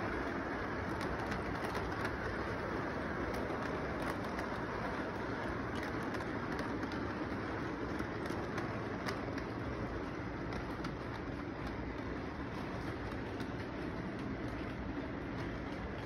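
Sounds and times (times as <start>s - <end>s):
model train cars rolling: 0.0s - 16.0s
wheels clicking over rails: 0.0s - 16.0s.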